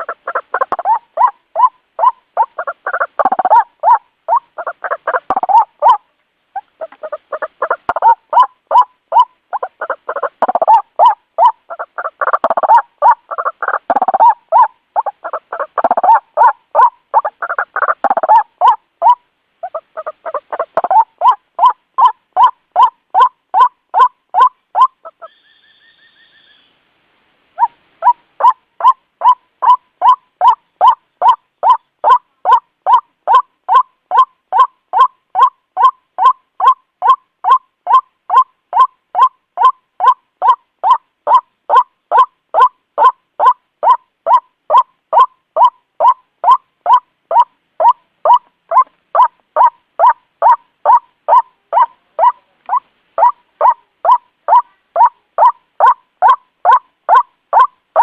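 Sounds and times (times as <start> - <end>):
waterhen harsh kwak calls: 0.0 - 6.0, 6.6 - 26.7, 27.6 - 58.0.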